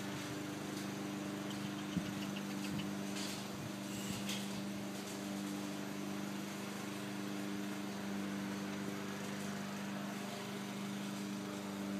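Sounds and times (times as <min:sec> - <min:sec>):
steady machine hum: 0:00.0 - 0:11.9.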